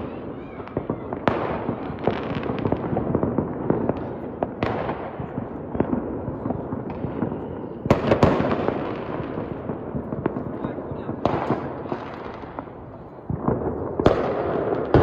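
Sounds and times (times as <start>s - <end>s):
firecrackers crackling: 0.0s - 15.0s
sharp firework bursts: 0.0s - 15.0s.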